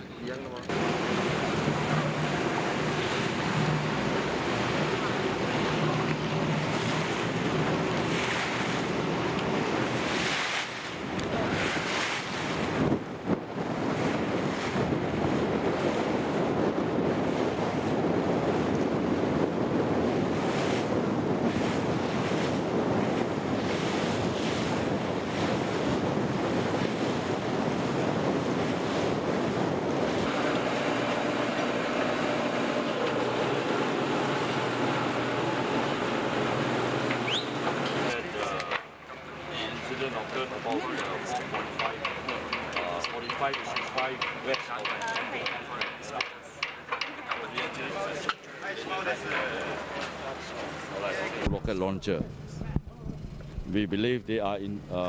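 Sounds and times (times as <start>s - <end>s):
boat engine running: 0.0s - 55.0s
wind buffeting microphone: 0.5s - 38.8s, 39.8s - 54.9s.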